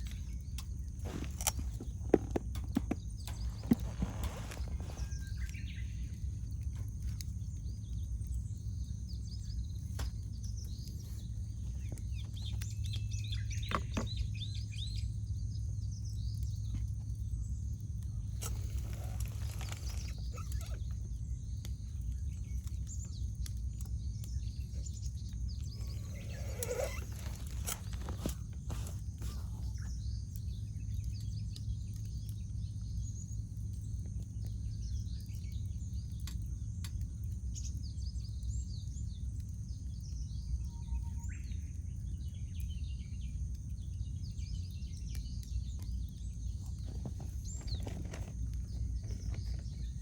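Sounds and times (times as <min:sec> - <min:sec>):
campfire crackling and popping: 0:00.0 - 0:50.0
small birds chirping: 0:00.0 - 0:50.0.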